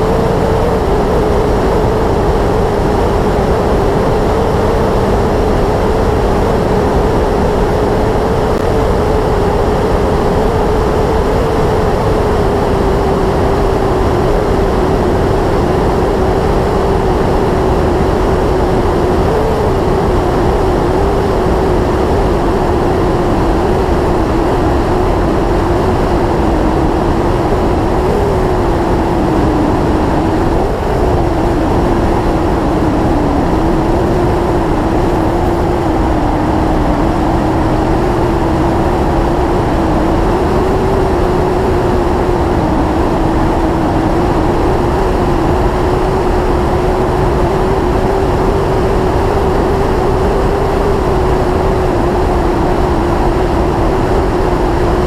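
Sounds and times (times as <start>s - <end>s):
wind noise rushing: 0.0s - 55.0s.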